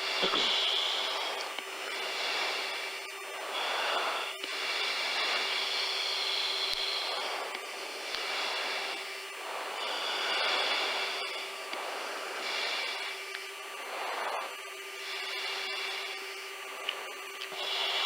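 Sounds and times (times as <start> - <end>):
jet cockpit rushing noise: 0.0 - 18.0
steady high whine: 0.0 - 18.0.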